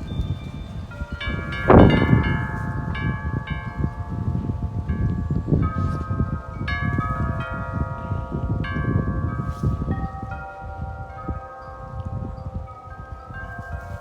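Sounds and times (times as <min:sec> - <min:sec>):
metal wind chimes ringing: 0:00.0 - 0:14.0
wind rumbling on microphone: 0:00.0 - 0:14.0.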